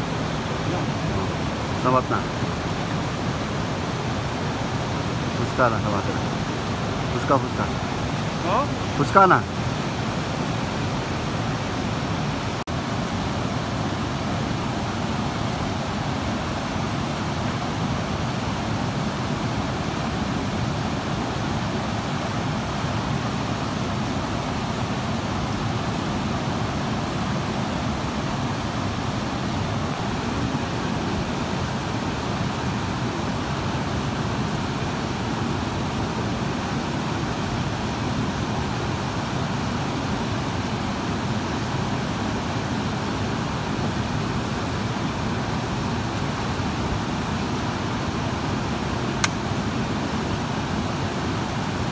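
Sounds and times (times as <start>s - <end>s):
river rapids rushing over rocks: 0.0s - 51.9s.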